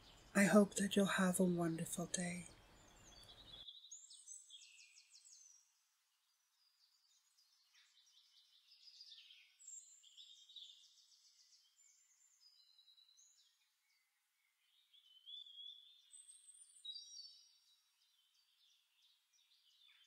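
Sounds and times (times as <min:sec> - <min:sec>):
birds chirping and trilling: 0:00.0 - 0:20.0.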